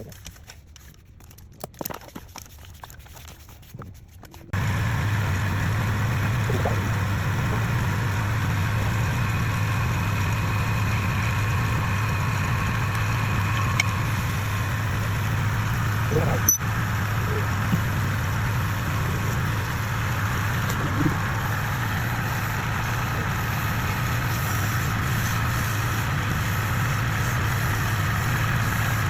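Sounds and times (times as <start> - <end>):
lathe motor humming: 4.6 - 29.0.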